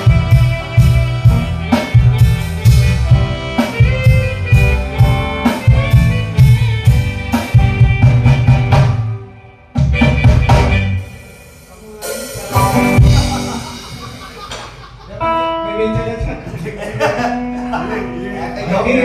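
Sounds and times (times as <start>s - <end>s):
band with drums and bass: 0.0s - 19.0s.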